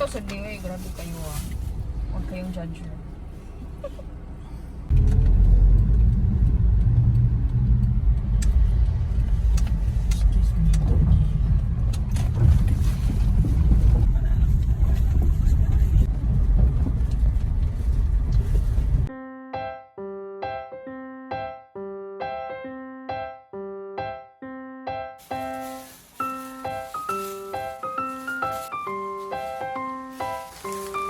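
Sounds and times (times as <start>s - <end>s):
vehicle low rumble: 0.0s - 19.1s, 25.2s - 31.0s.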